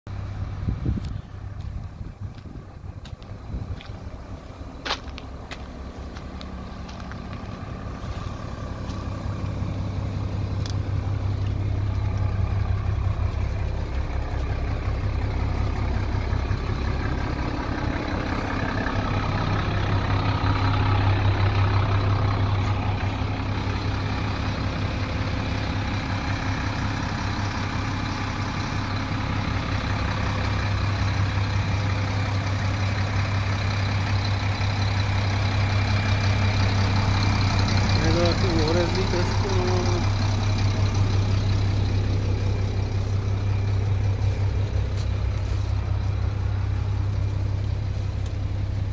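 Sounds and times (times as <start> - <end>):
diesel engine idling: 0.1 - 48.9.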